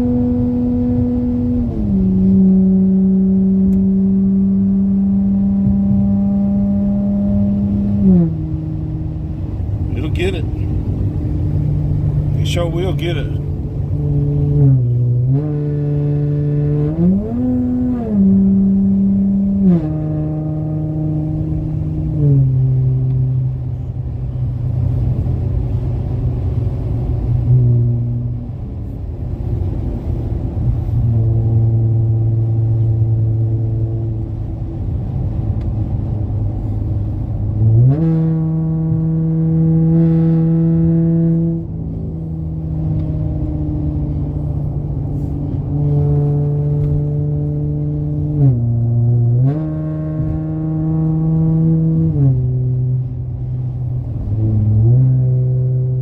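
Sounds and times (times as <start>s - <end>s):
car engine and exhaust: 0.0s - 56.0s.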